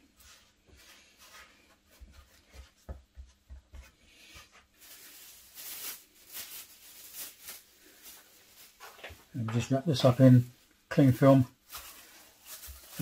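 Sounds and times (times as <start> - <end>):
hands rubbing pastry dough: 0.0 - 9.8, 11.0 - 13.0.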